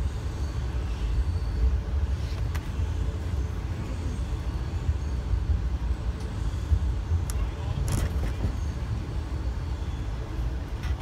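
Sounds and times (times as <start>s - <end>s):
train interior low rumble: 0.0s - 11.0s.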